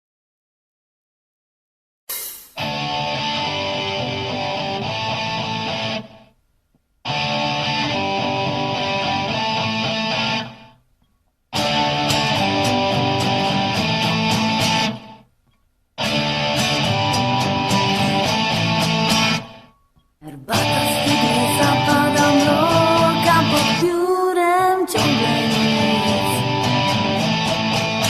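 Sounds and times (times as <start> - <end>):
background guitar music: 2.1 - 6.3, 7.0 - 10.8, 11.5 - 15.3, 16.0 - 28.0.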